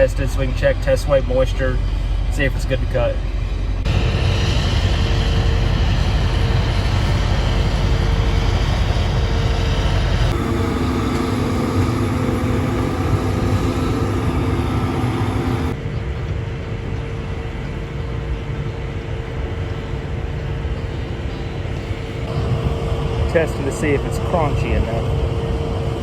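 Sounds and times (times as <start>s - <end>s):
vehicle engine rumbling: 0.0s - 25.8s.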